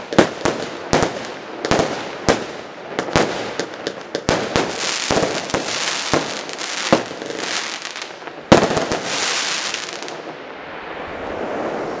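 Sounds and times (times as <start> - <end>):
firework bangs: 0.0 - 10.4
firework crackling: 0.0 - 12.0.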